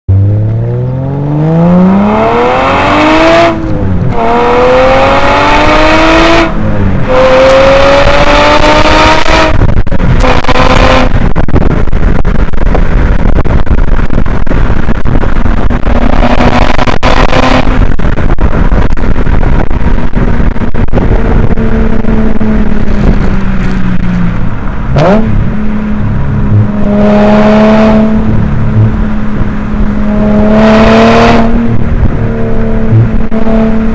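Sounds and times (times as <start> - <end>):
car engine revving while driving: 0.1 - 33.9
wind buffeting microphone: 1.2 - 33.9.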